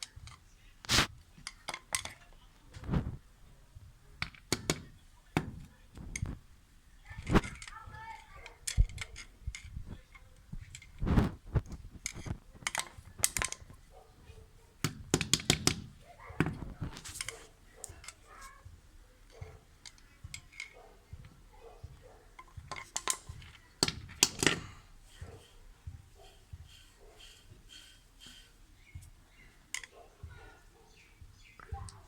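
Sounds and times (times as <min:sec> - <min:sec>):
hand tools clicking and scraping: 0:00.0 - 0:03.0, 0:04.2 - 0:06.4, 0:07.1 - 0:30.4.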